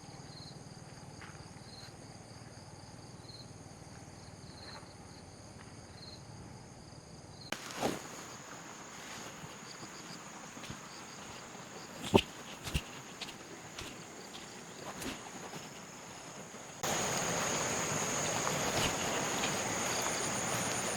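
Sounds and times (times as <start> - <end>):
crickets trilling: 0.0 - 20.9.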